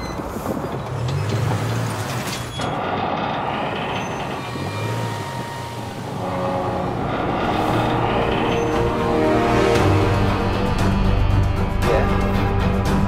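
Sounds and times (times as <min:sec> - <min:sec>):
engine pulling under heavy load: 0:00.0 - 0:11.6
heavy trailers rumbling on road: 0:00.0 - 0:13.0.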